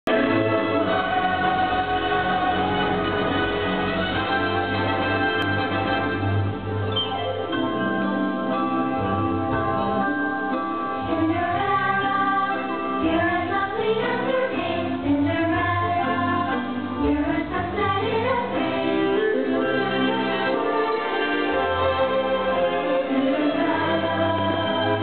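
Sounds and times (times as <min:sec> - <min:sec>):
music with singing voices: 0:00.1 - 0:25.0.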